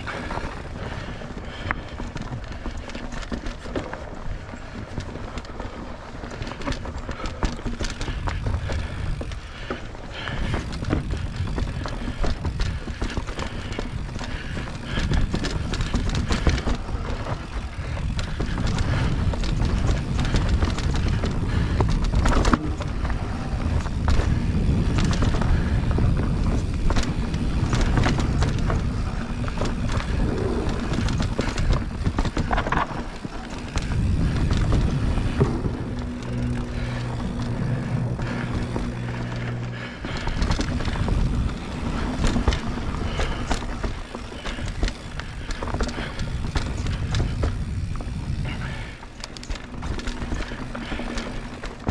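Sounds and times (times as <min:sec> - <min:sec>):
bike rattling over bumps: 0:00.0 - 0:51.9
mountain bike rolling on dirt: 0:00.0 - 0:51.9.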